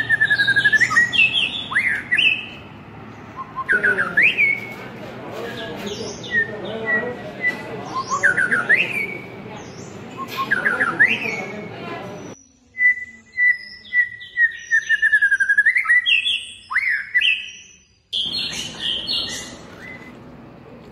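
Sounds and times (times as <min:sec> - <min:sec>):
songbird chirping and singing: 0:00.0 - 0:20.2.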